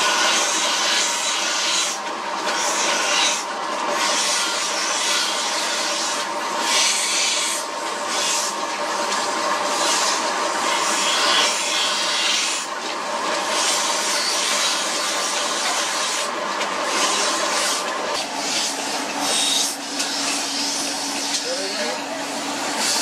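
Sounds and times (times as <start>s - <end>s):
blade grinding on wheel: 0.0s - 23.0s
machine hum: 0.0s - 23.0s.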